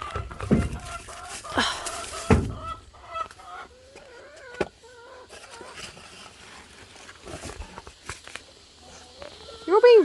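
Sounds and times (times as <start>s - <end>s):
chickens fussing calls: 0.0s - 10.0s.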